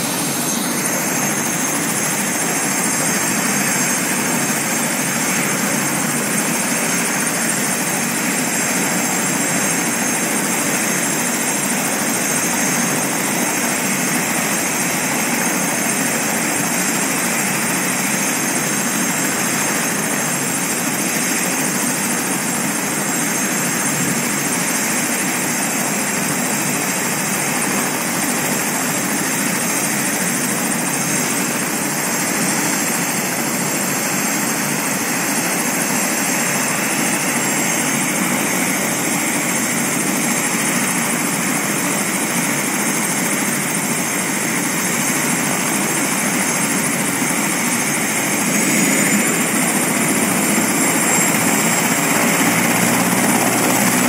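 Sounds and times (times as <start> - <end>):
helicopter turbine whining: 0.0 - 54.0.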